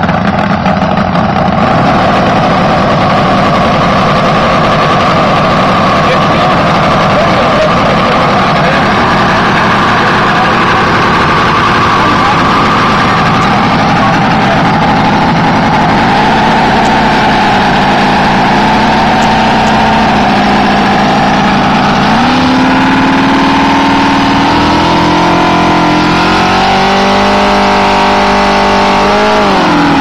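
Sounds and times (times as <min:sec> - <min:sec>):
model radial engine revving: 0:00.0 - 0:30.0.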